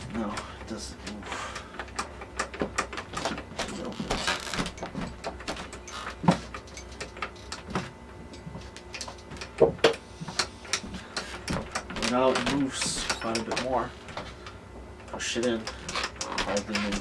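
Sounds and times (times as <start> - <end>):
metallic clicks and knocks: 1.8 - 17.0.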